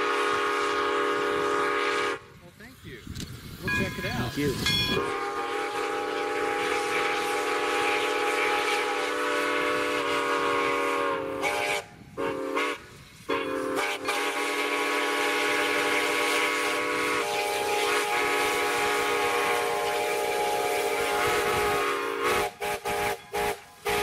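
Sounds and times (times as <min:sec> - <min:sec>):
steam locomotive whistle blasts: 0:00.0 - 0:02.3, 0:03.7 - 0:24.0.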